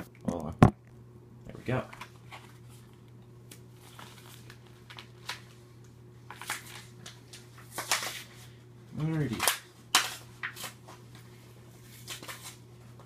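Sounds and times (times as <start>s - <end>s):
steady low hum: 0.0s - 13.0s
packaging and cards rustling: 1.7s - 13.0s.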